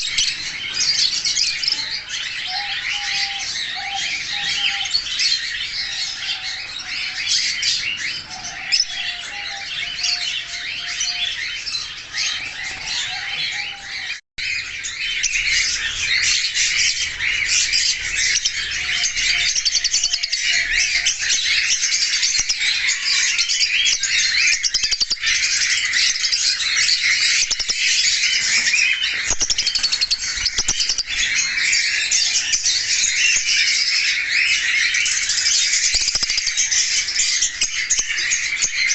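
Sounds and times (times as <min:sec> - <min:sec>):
parrots chirping and chattering: 0:00.0 - 0:38.9.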